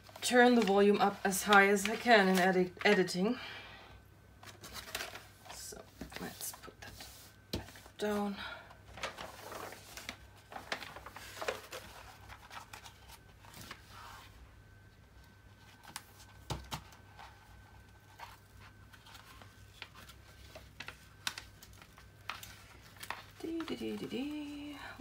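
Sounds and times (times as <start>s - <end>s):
plastic sheet crinkling: 0.0s - 3.2s, 4.4s - 14.1s, 15.6s - 25.0s.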